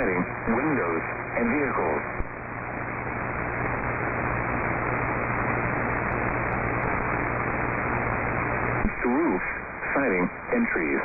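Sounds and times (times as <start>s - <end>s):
low hum: 0.0s - 10.6s
radio static hiss: 0.0s - 11.0s.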